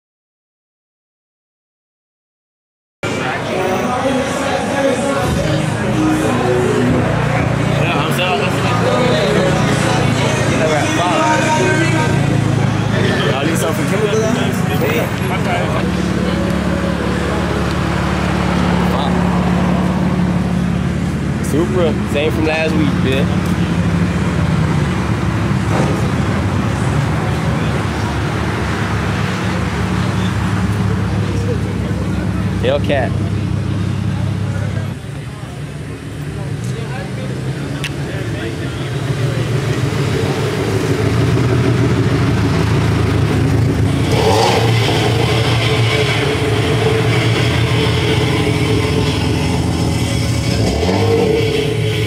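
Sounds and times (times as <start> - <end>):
car engines idling: 3.0 - 52.0.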